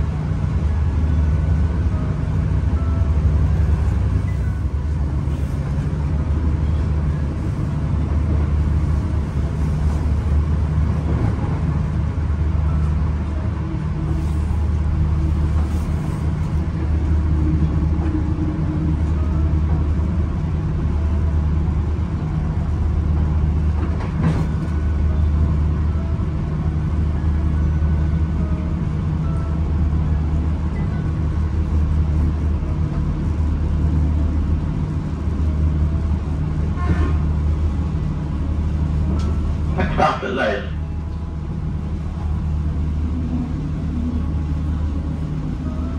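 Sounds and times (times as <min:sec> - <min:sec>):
train rumbling from inside: 0:00.0 - 0:45.9.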